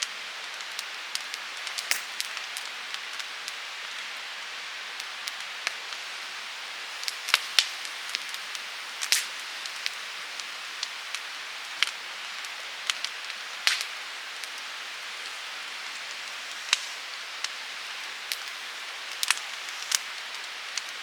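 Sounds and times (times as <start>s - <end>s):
fire hissing: 0.0s - 21.0s
fire pops and snaps: 0.4s - 4.1s, 7.0s - 21.0s.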